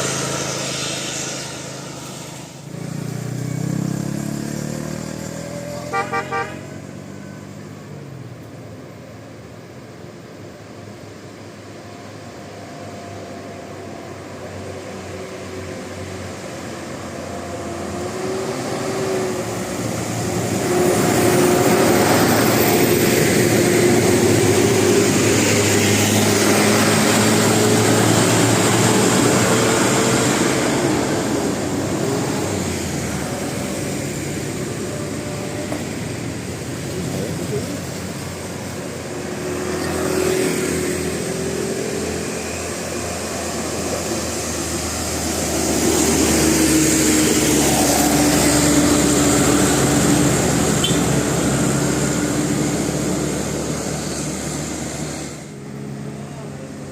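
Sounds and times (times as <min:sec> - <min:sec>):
buses driving past: 0:00.0 - 0:56.9.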